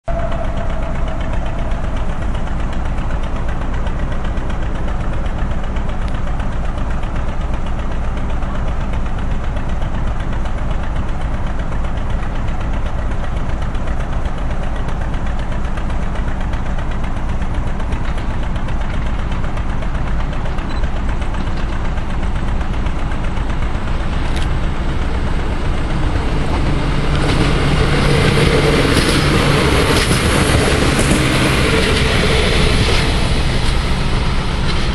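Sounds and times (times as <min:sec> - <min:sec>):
diesel engine idling: 0:00.0 - 0:34.9
railbus passing: 0:00.0 - 0:34.9.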